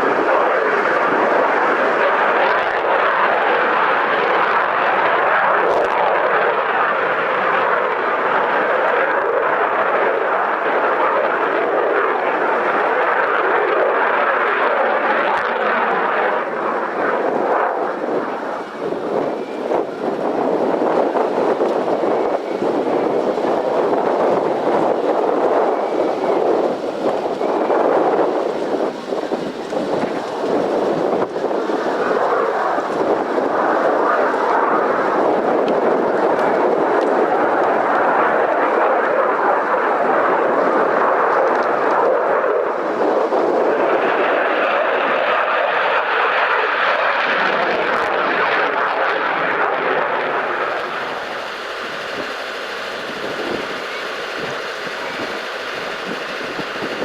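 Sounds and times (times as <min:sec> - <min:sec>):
aircraft engine noise: 0:00.0 - 0:57.0.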